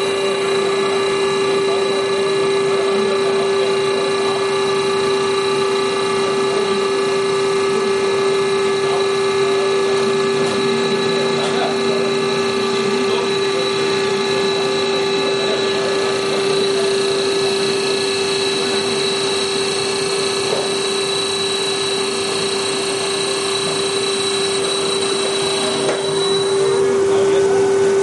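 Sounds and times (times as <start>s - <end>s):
wood lathe whining: 0.0s - 28.0s.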